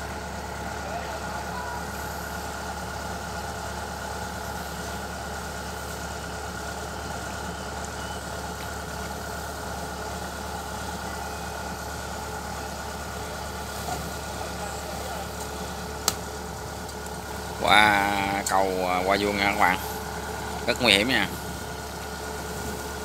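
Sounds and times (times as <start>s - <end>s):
diesel engine running steadily: 0.0s - 23.0s.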